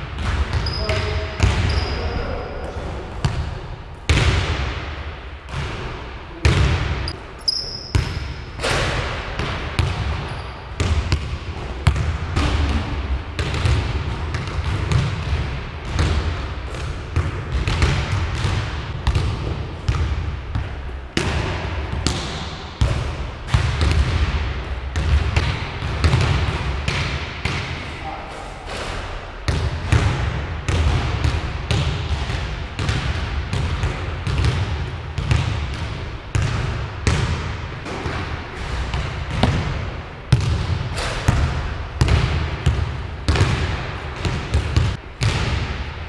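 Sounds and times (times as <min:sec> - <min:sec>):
basketballs bouncing on wooden floor: 0:00.0 - 0:04.8, 0:05.5 - 0:27.8, 0:29.4 - 0:45.9.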